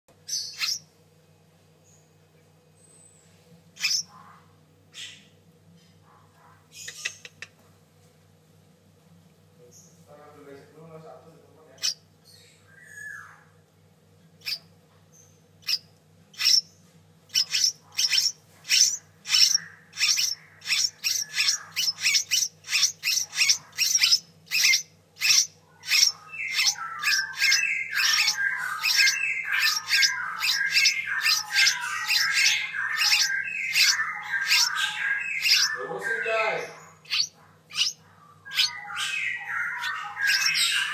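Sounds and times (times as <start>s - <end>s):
bird chicks chirping: 0.1s - 1.0s, 2.8s - 5.4s, 6.1s - 7.6s, 9.7s - 13.6s, 14.3s - 40.9s
lower bird chatter: 0.2s - 0.9s, 2.8s - 7.6s, 9.7s - 13.4s, 14.3s - 40.9s.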